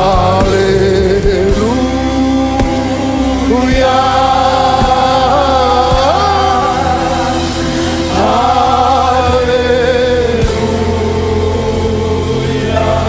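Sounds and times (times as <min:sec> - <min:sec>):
band accompaniment: 0:00.0 - 0:13.0
choir and congregation singing: 0:00.0 - 0:13.0.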